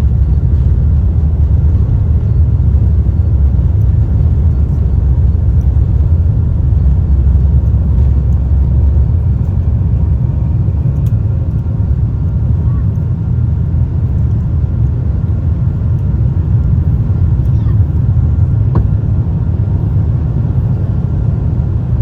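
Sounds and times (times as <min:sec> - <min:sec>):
jet engines rumbling in cabin: 0:00.0 - 0:22.0.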